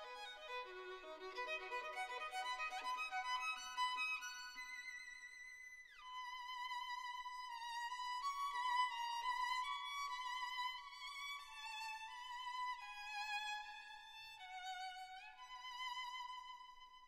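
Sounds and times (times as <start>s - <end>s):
violin slow melody: 0.0s - 17.0s.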